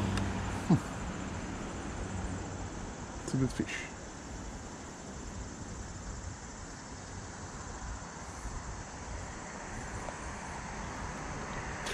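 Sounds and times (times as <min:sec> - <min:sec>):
constant hiss: 0:00.0 - 0:11.9.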